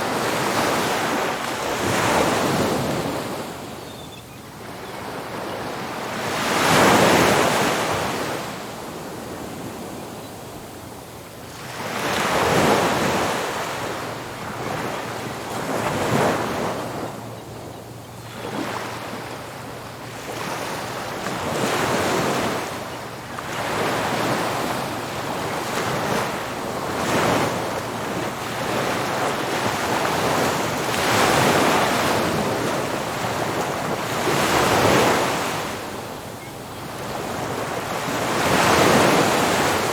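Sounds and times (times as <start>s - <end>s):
ocean waves breaking on beach: 0.0s - 3.8s, 4.5s - 39.9s.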